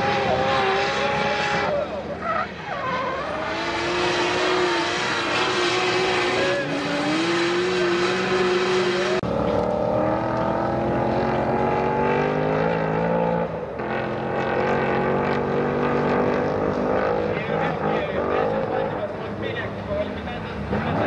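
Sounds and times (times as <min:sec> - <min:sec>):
engines droning: 0:00.0 - 0:21.0.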